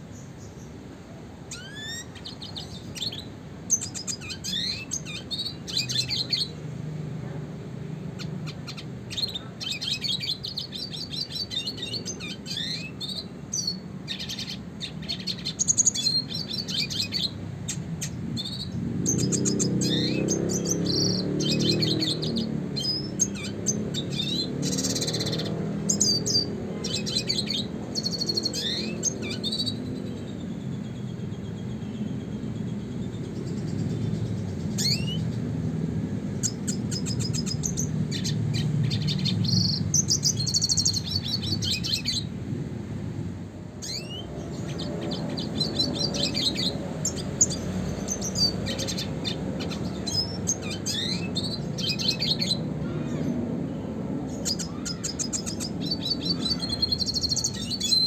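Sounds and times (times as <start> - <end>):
bird twittering song: 0.0 - 42.6, 43.8 - 58.0.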